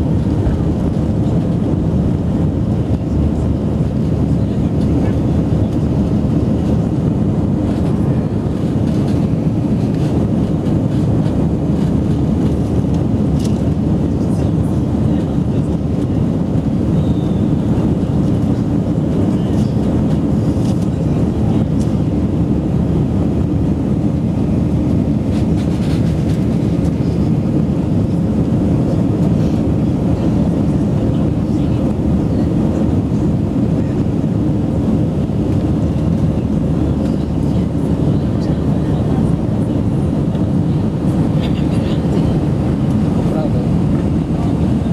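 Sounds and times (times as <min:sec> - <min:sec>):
jet engines at climb power: 0:00.0 - 0:44.9.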